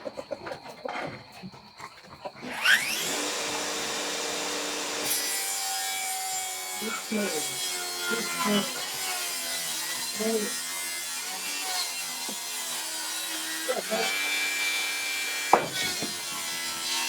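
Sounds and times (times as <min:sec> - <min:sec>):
power saw cutting wood: 0:02.4 - 0:17.0.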